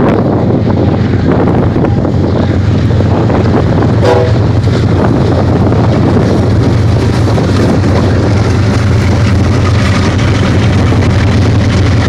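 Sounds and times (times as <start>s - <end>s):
train wheels rumbling on rail: 0.0s - 12.0s
wind buffeting microphone: 0.0s - 12.0s.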